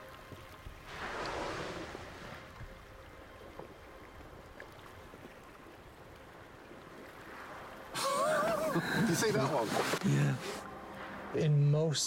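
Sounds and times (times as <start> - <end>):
low wind rumble: 0.0 - 12.0.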